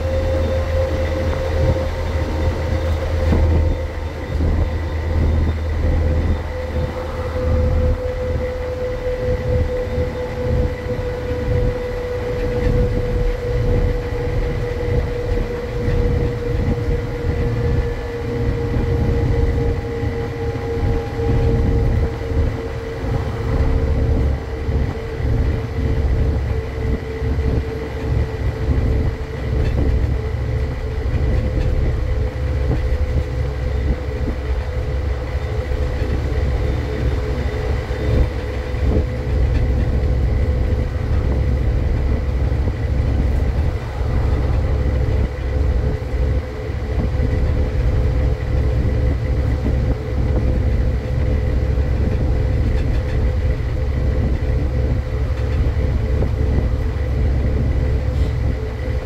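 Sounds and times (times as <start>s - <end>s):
diesel bus engine droning: 0.0s - 59.0s
engine whine: 0.0s - 59.0s.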